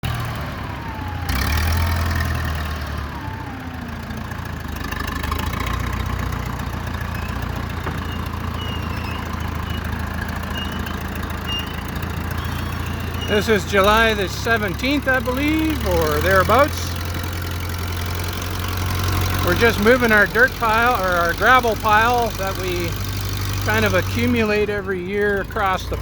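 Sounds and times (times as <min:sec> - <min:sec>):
backhoe loader engine running: 0:00.0 - 0:26.0.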